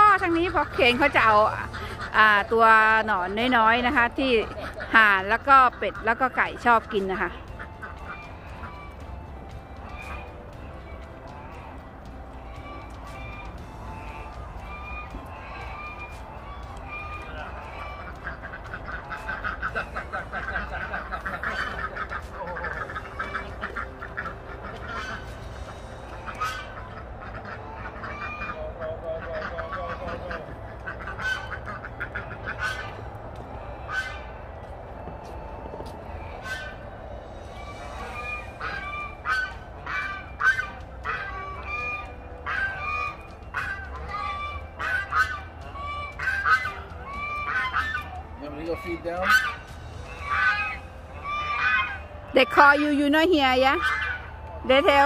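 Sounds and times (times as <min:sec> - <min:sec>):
geese and ducks calling: 0:00.0 - 0:55.0.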